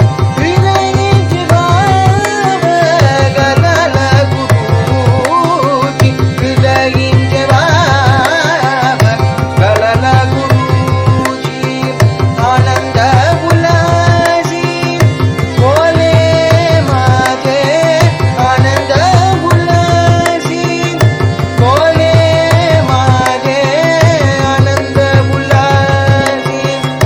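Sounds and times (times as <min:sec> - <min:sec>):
harmonium melody: 0:00.0 - 0:27.0
person singing: 0:00.0 - 0:27.0.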